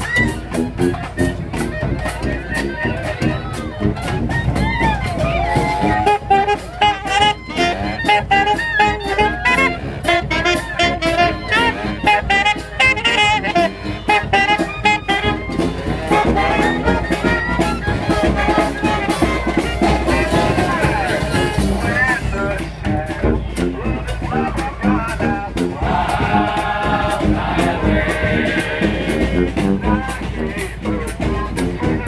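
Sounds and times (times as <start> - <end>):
horns playing wavering melody: 0.0 - 32.0
steady drum beats: 0.0 - 32.0
street band playing gospel: 0.0 - 32.0.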